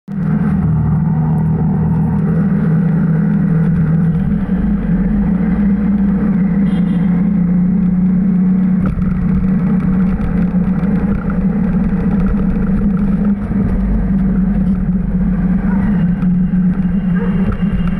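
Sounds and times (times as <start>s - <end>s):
road rumble: 0.1s - 17.9s
vehicle engine hum: 0.1s - 17.9s.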